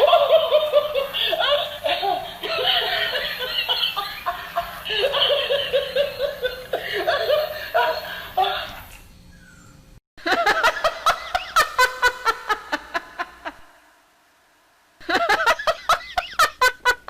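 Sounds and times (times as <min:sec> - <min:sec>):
woman laughing heartily: 0:00.0 - 0:08.9, 0:10.2 - 0:13.7, 0:15.0 - 0:17.0.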